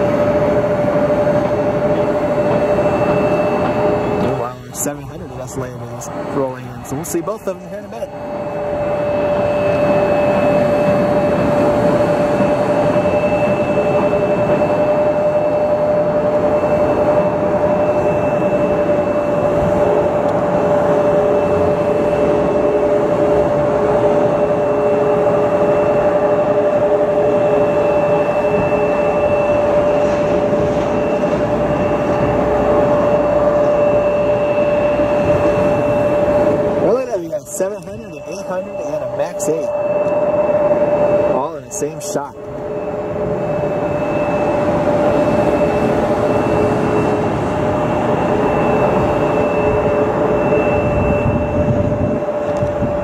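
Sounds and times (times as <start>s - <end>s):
machine running hum: 0.0s - 53.0s.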